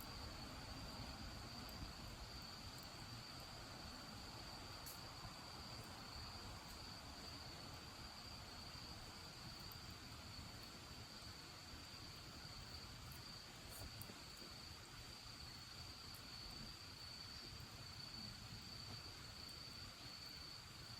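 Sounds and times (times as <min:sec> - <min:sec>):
insects trilling: 0:00.0 - 0:20.9.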